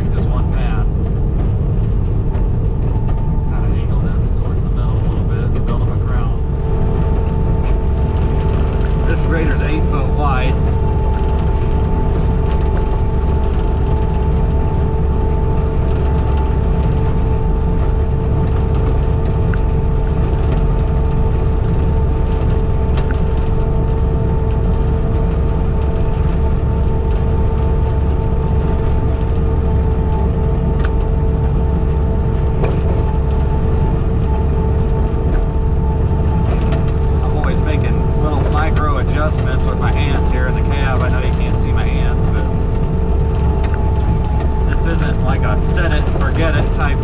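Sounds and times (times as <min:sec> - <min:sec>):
diesel engine drone with whine: 0:00.0 - 0:47.0.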